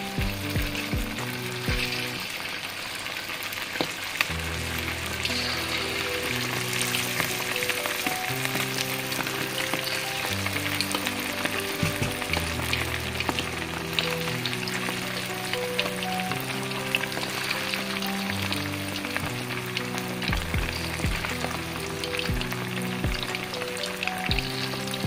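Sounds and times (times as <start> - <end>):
soft instrumental music: 0.0 - 2.4, 4.3 - 25.0
chicken deep-frying in oil: 0.0 - 25.0.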